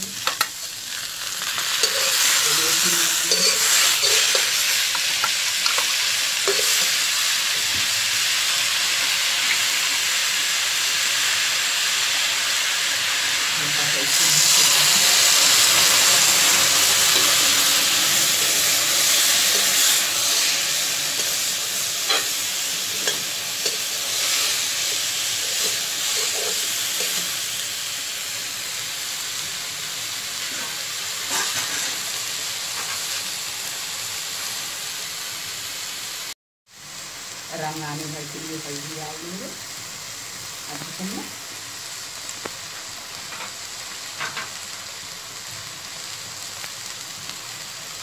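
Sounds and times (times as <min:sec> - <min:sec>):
paste sizzling in hot oil: 0:00.0 - 0:48.0.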